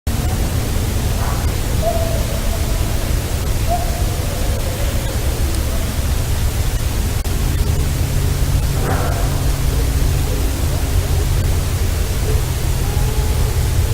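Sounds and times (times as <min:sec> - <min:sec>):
faint drawn-out calls: 0:00.1 - 0:13.9
recorder hiss: 0:00.1 - 0:13.9
wind rumble: 0:00.1 - 0:13.9.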